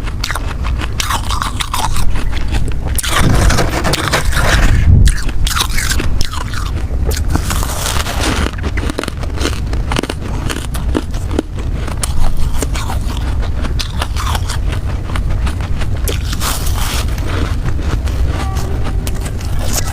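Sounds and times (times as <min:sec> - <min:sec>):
ice being chewed: 0:00.0 - 0:19.9
low rumble: 0:00.0 - 0:19.9.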